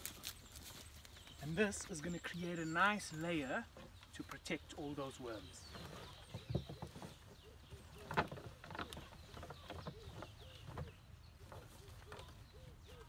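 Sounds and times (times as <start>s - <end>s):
plants rustling and crackling: 0.0s - 13.0s.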